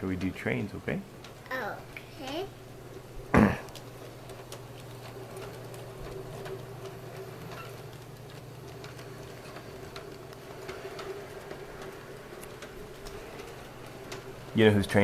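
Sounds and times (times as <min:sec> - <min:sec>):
toy train motor hum: 0:00.0 - 0:15.0.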